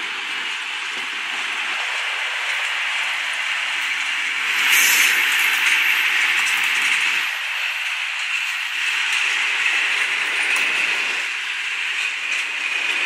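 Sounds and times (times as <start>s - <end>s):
hiss of wheels on rail: 0.0s - 13.0s
train wheels rumbling: 0.0s - 13.0s.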